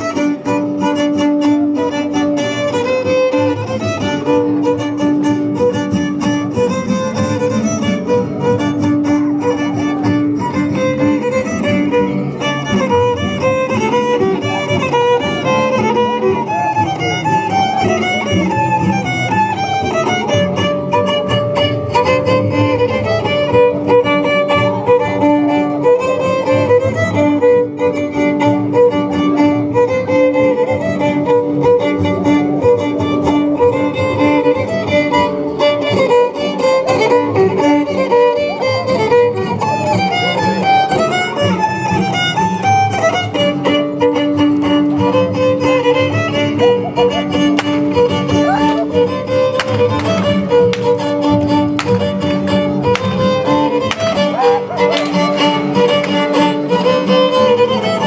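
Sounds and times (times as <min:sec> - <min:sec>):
fiddles playing a melody: 0:00.0 - 0:58.0
string accompaniment: 0:00.0 - 0:58.0.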